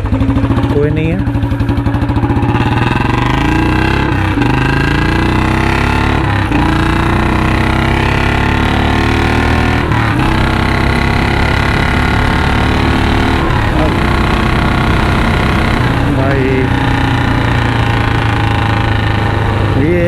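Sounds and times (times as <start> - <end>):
motorcycle engine revving hard: 0.0 - 20.0.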